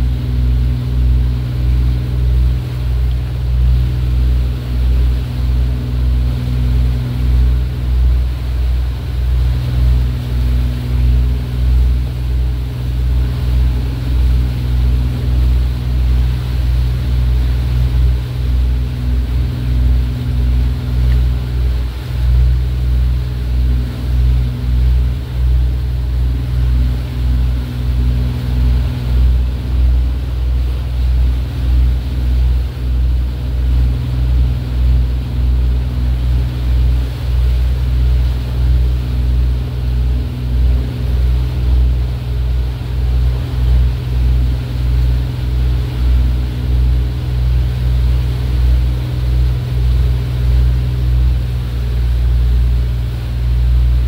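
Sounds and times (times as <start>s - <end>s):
boat engine humming: 0.0s - 54.0s
water rushing: 0.6s - 54.0s.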